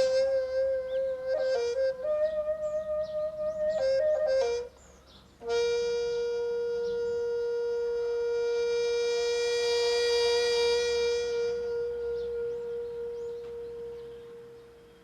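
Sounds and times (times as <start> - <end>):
wind instrument playing solo: 0.0 - 15.0.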